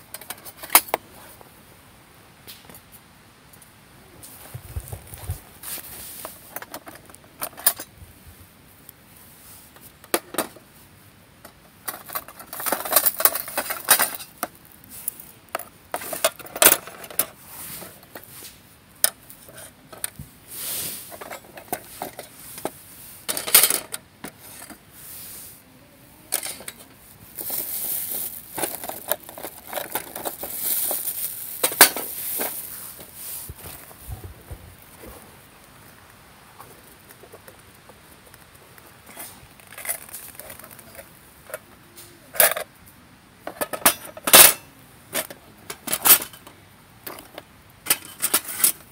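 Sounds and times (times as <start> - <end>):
rustling: 2.4 - 42.7.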